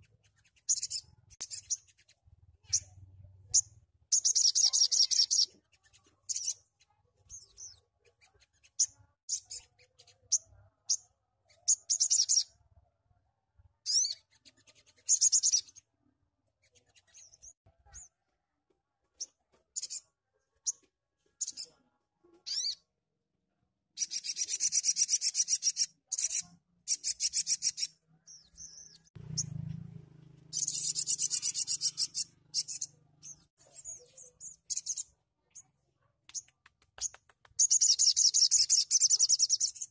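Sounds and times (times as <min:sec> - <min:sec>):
sunbird chirps and trills: 0:00.0 - 0:12.6, 0:13.8 - 0:15.9, 0:16.5 - 0:18.2, 0:19.1 - 0:21.8, 0:22.4 - 0:22.9, 0:24.0 - 0:35.8, 0:36.4 - 0:39.9.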